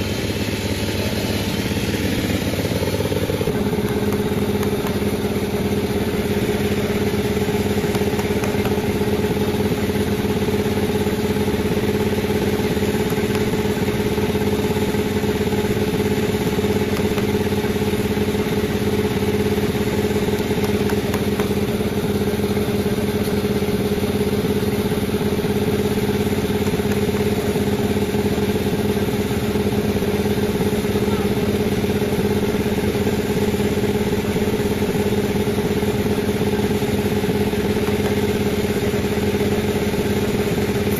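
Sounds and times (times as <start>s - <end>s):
sawmill droning: 0.0s - 40.9s.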